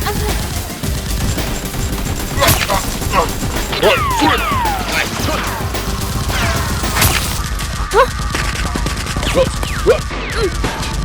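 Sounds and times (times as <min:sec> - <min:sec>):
action music: 0:00.0 - 0:11.0.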